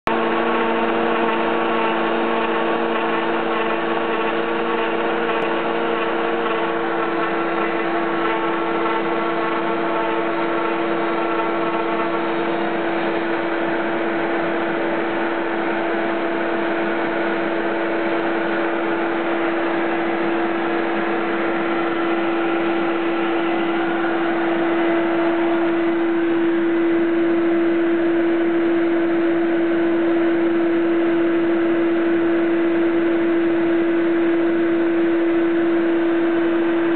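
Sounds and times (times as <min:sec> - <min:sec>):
router spindle whine: 0:00.1 - 0:36.9.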